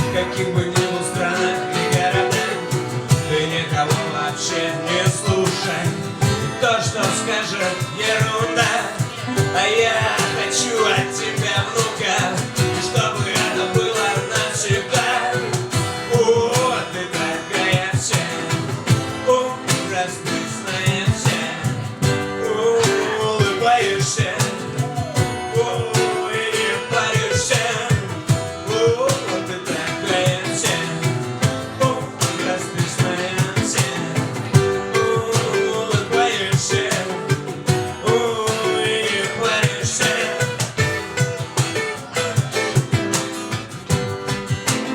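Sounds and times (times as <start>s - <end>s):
acoustic guitar: 0.0s - 44.9s
live band music: 0.0s - 44.9s.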